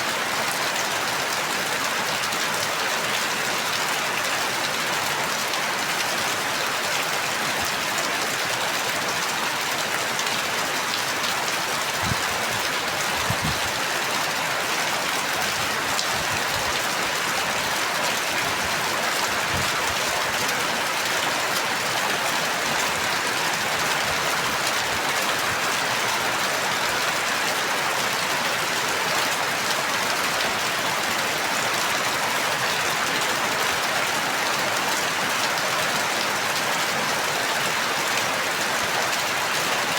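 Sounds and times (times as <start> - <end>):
heavy rain pattering: 0.1 - 39.9.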